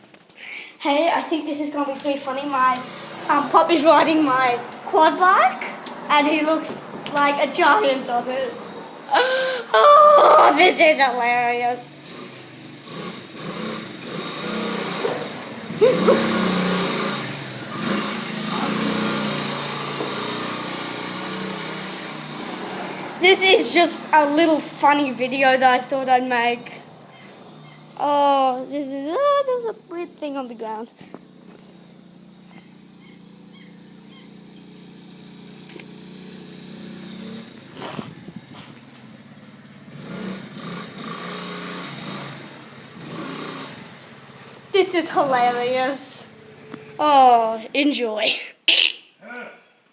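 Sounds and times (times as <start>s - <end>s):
quad bike engine revving: 0.8s - 48.9s.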